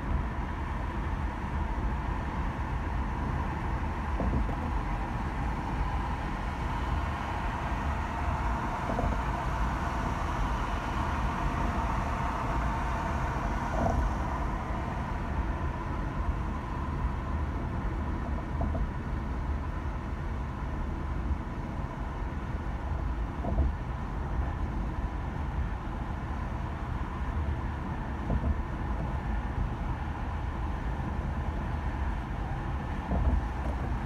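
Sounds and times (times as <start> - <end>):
engine hum: 0.0 - 34.0
road and tyre rumble: 0.0 - 34.0.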